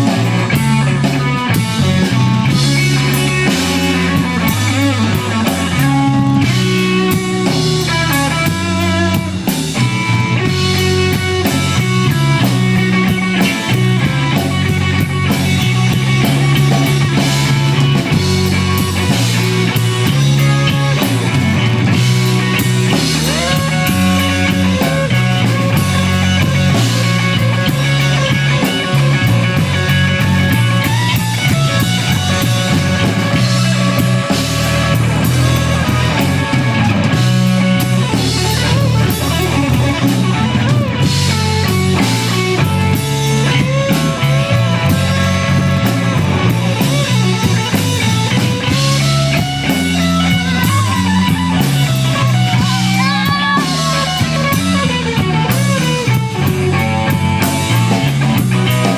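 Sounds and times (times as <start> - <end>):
drums: 0.0 - 58.9
electric guitar lead: 0.0 - 58.9
walking bass line: 0.0 - 58.9.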